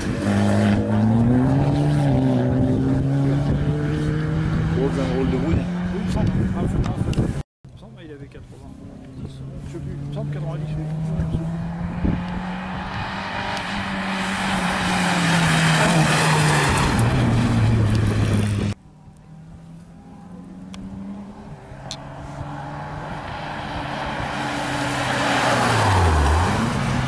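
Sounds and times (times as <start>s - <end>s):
rally car engine passing: 0.0s - 7.4s, 8.6s - 27.0s
rally car engine approaching: 0.0s - 27.0s.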